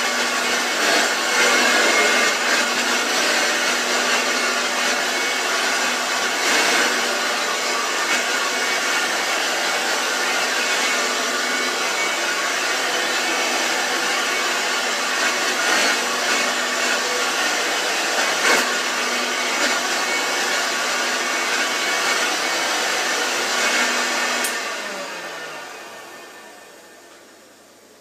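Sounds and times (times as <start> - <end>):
vacuum cleaner running on carpet: 0.0 - 28.0.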